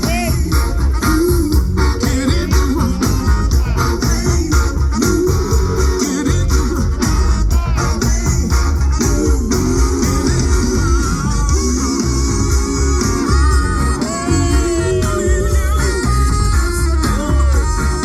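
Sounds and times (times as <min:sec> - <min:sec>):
drum beat: 0:00.0 - 0:18.0
guitar: 0:00.0 - 0:18.0
live band playing pop song: 0:00.0 - 0:18.0.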